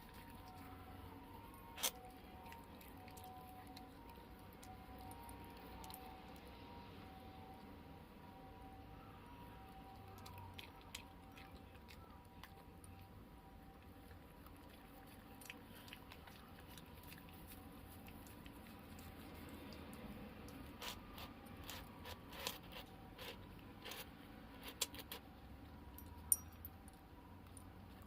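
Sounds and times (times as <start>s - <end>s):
cat chewing grass: 0.0s - 7.0s, 10.0s - 25.7s.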